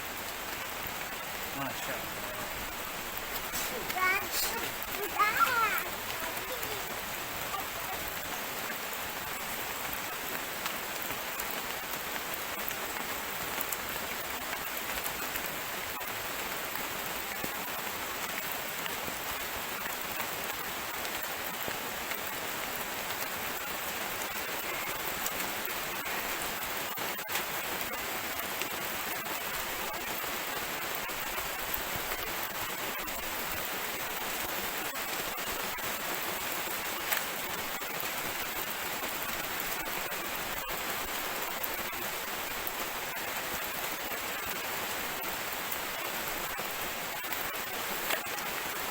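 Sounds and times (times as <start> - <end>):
light drizzling rain: 0.0 - 48.9.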